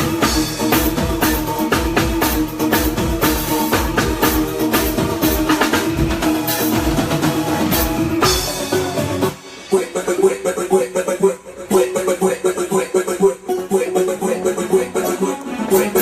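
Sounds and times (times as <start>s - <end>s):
live band over sound system: 0.0s - 16.0s.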